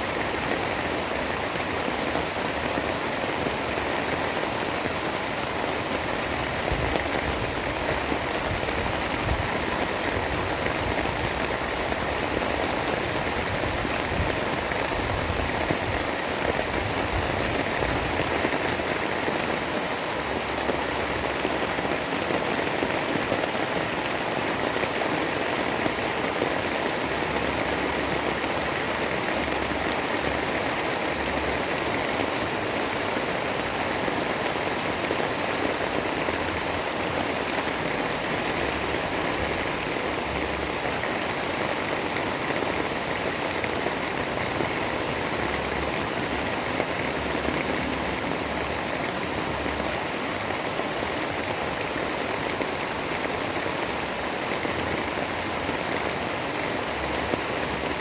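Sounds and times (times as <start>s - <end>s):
dense rain: 0.0s - 58.0s.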